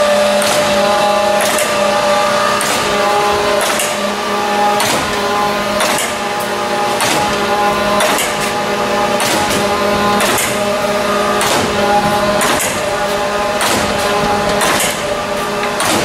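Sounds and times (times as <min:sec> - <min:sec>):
grinder machine hum: 0:00.0 - 0:16.0.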